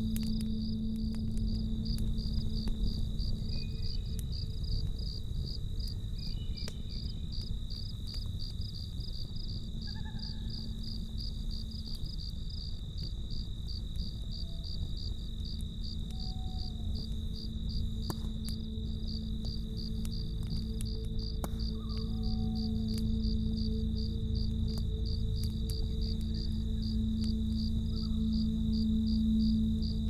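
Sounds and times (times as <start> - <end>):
campfire crackling: 0.0 - 30.0
crickets chirping: 0.0 - 30.0.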